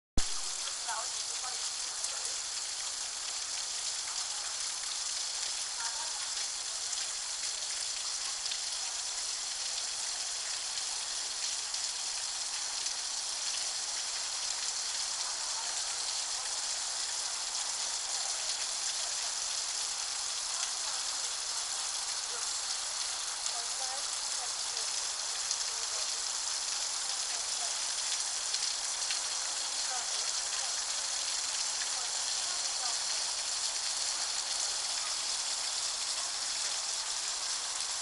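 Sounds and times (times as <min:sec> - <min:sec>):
rainwater splashing on metal: 0:00.2 - 0:38.0.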